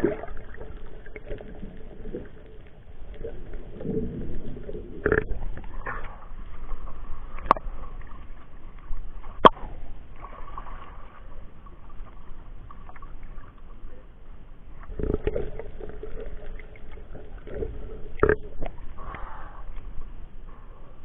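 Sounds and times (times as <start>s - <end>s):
muffled water sloshing and splashing: 0.0s - 21.0s.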